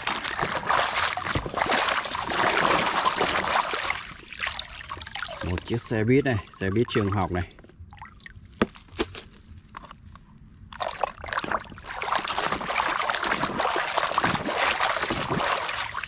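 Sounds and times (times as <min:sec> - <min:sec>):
water splashing in plastic tub: 0:00.0 - 0:08.3, 0:10.7 - 0:16.0.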